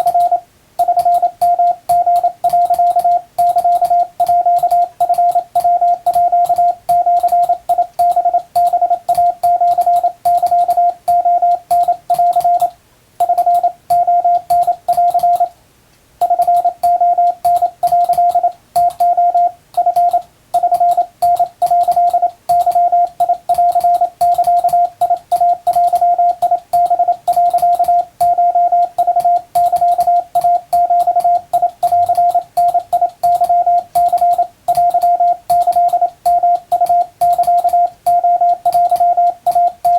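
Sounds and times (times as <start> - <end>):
morse code tone: 0.0 - 15.6, 16.2 - 39.9.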